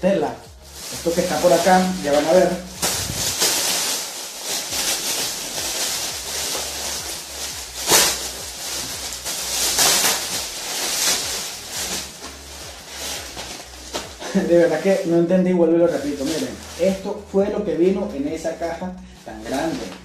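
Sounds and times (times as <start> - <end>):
plastic wrap crinkling: 0.2 - 20.0.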